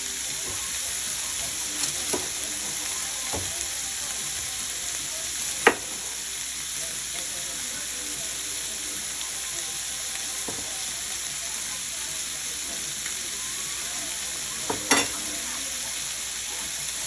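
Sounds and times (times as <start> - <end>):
sausage sizzling in a frying pan: 0.0 - 17.0.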